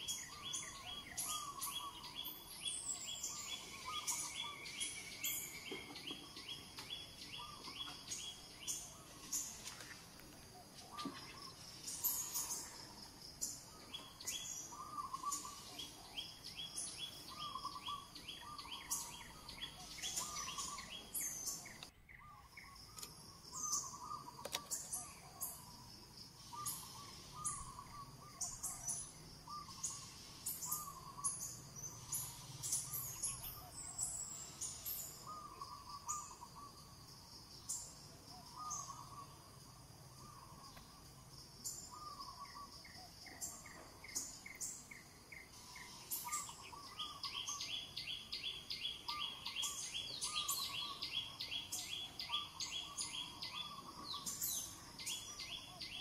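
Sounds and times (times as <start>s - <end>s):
bird warbling calls: 0.0s - 9.6s, 10.8s - 25.8s, 26.4s - 36.8s, 38.4s - 39.4s, 41.6s - 56.0s
small birds chirping: 0.0s - 56.0s.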